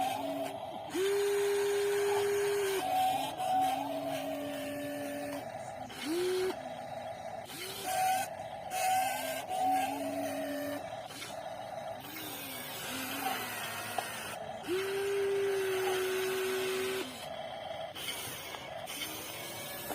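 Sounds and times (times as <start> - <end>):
motor whine and gear noise: 0.0 - 19.9
steady whirring: 0.0 - 19.9.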